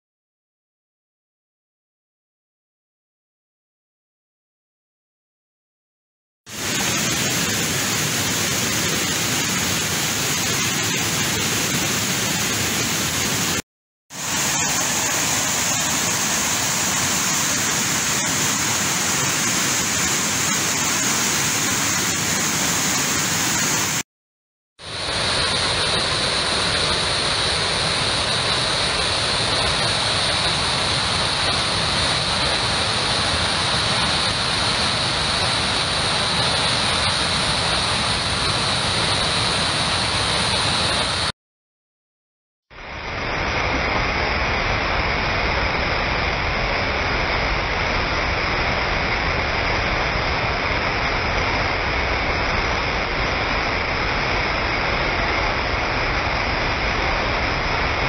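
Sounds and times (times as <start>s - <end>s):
stream rushing over rocks: 6.5s - 13.6s, 14.2s - 24.0s, 24.8s - 41.3s, 42.9s - 58.0s.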